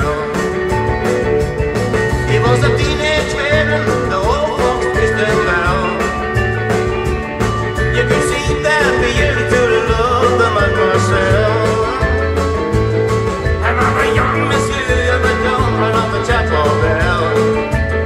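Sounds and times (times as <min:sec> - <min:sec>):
bass line: 0:00.0 - 0:18.0
electric guitar lead melody: 0:00.0 - 0:18.0
steady drums: 0:00.0 - 0:18.0.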